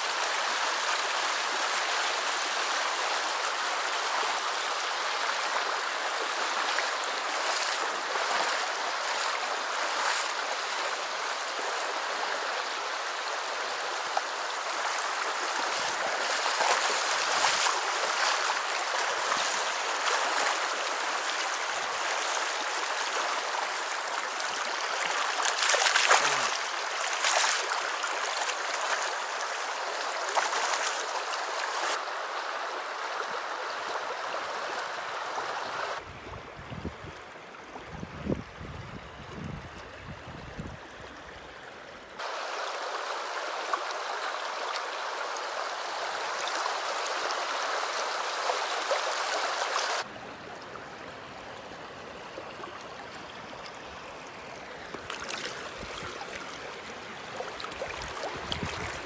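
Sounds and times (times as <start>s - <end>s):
stream rushing over stones: 0.0s - 36.1s, 42.2s - 59.0s.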